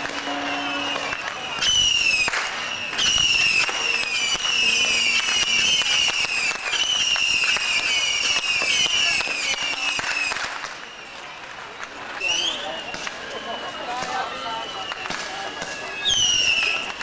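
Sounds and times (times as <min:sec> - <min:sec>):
firecrackers popping: 0:00.0 - 0:17.0.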